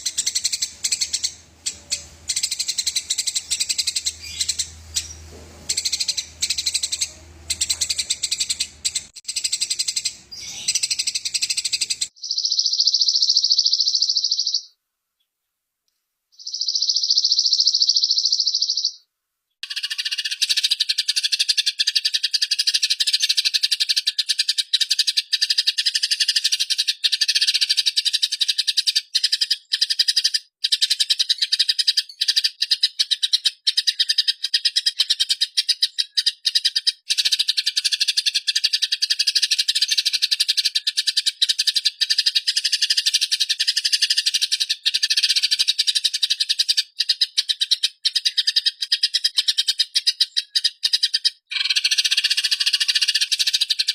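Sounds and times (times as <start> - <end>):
sparrows chattering: 0.0 - 14.7, 16.4 - 19.0, 19.6 - 53.9.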